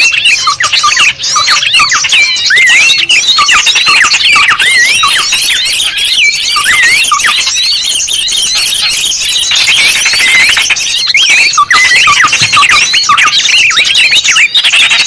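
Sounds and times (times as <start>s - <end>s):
chorus of songbirds chirping: 0.0s - 15.0s
fast rattling bird trill: 0.0s - 15.0s.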